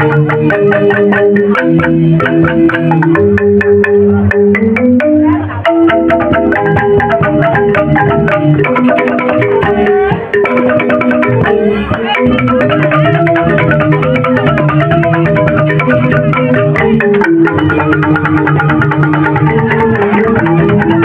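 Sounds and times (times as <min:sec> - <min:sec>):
bamboo xylophone gamelan: 0:00.0 - 0:21.0
percussion: 0:00.0 - 0:21.0.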